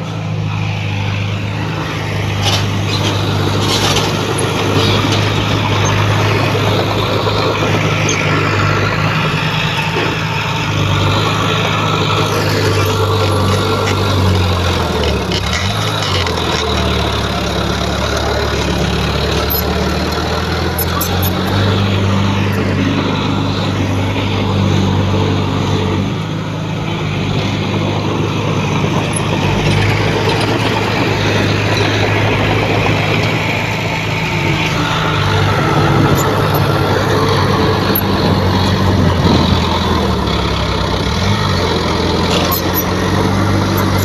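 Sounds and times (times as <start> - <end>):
heavy diesel engine droning: 0.0 - 44.0.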